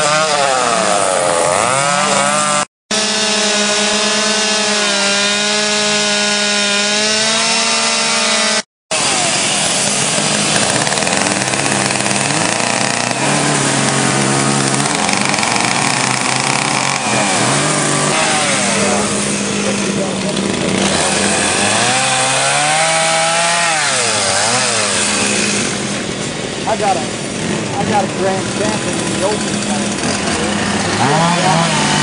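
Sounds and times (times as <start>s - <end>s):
chainsaws cutting wood: 0.0s - 32.0s.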